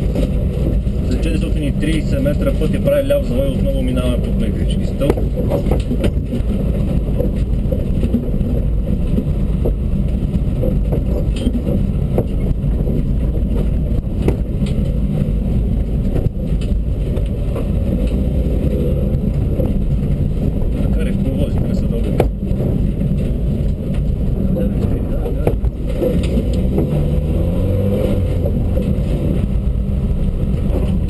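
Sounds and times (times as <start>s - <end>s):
car engine and road rumble: 0.0s - 31.0s
knocks and rattles from bumps: 0.0s - 31.0s.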